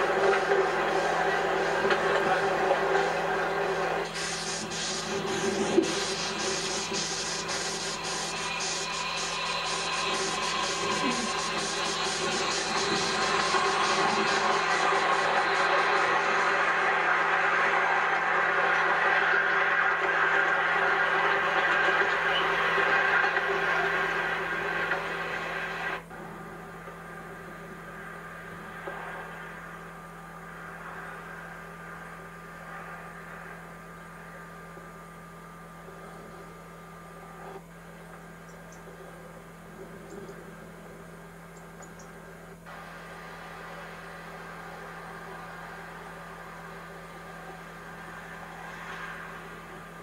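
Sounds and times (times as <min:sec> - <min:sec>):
low hum with hiss: 0:00.0 - 0:50.0.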